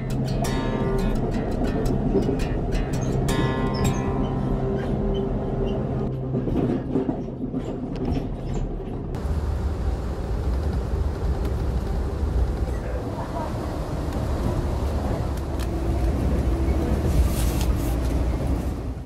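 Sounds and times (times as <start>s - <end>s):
train rumbling along rails: 0.0s - 19.0s.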